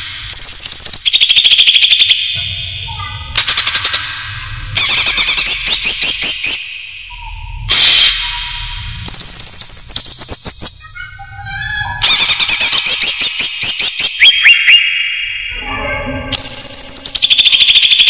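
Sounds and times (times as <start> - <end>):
bird chattering trills: 0.0 - 15.6, 16.3 - 18.0.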